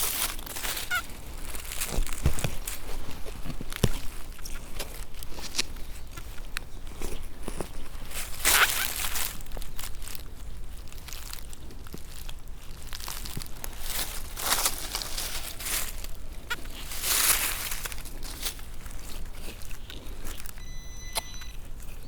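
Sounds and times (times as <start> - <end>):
dry leaves crunching and rustling: 0.0 - 20.6.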